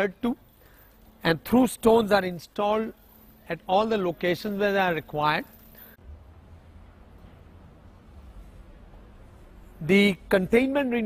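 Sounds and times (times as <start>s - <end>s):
faint low rumble and hiss: 0.0s - 11.0s.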